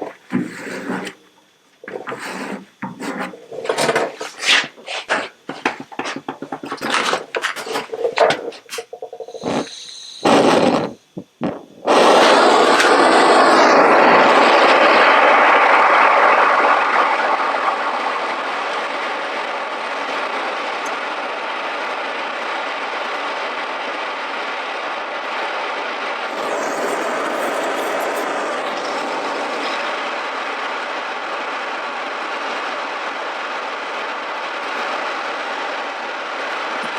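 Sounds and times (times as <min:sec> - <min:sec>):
blowtorch hissing: 0:00.0 - 0:36.9.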